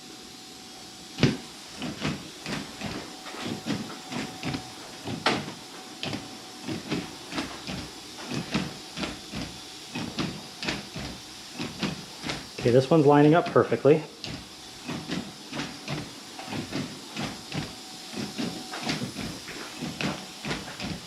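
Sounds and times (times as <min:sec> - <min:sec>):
faint steady whine: 0:00.0 - 0:21.0
steady hiss: 0:00.0 - 0:21.0
windshield wipers sweeping and knocking: 0:01.2 - 0:21.0.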